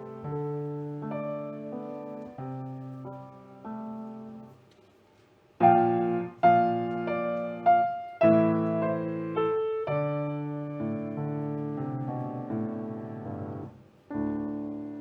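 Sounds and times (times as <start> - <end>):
piano chords: 0.0 - 4.6, 5.6 - 15.0.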